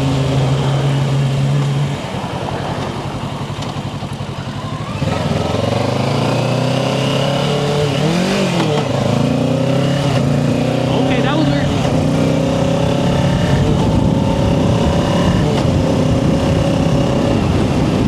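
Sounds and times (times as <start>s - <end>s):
motorcycle engine: 0.0s - 18.0s.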